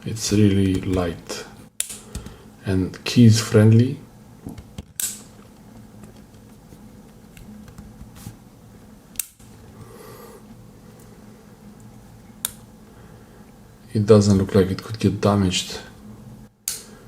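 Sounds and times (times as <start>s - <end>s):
faint room hum: 0.0s - 17.0s.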